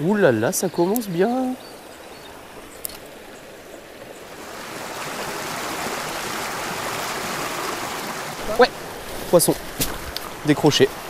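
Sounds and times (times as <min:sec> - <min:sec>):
river rushing over rocks: 0:02.0 - 0:11.0.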